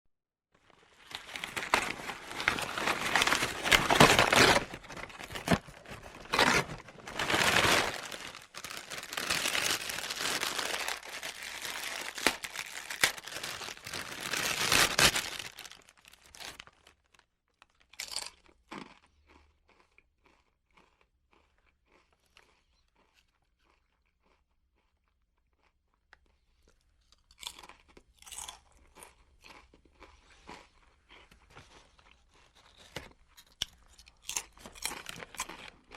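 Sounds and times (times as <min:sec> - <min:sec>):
potato chips crunching: 0:00.6 - 0:35.9.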